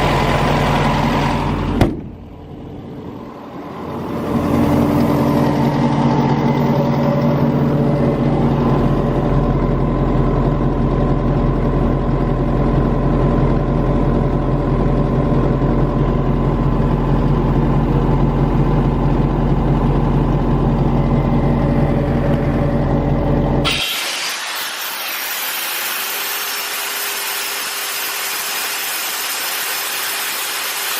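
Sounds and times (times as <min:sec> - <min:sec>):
diesel compressor engine running: 0:00.0 - 0:30.9.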